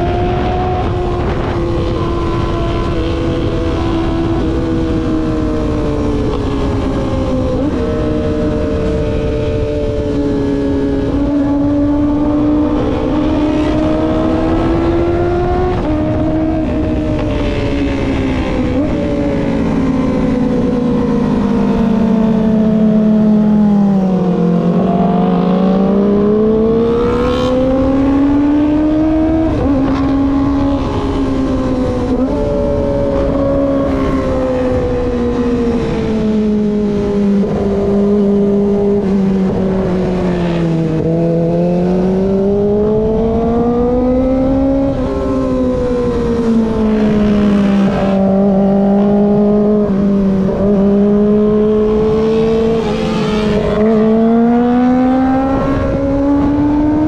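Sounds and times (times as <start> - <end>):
motorcycle engine: 0.0 - 57.0
wind over microphone: 0.0 - 57.0.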